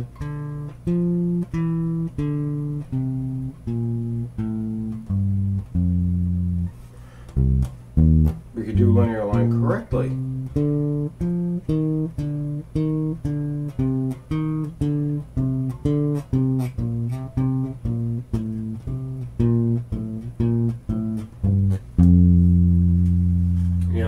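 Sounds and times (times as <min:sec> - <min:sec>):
electric bass plucked notes: 0:00.0 - 0:24.0.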